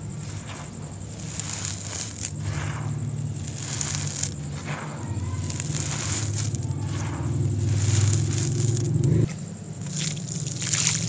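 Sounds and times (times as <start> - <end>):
gritty powder crunching: 0.0 - 11.0
steady low hum: 0.0 - 11.0.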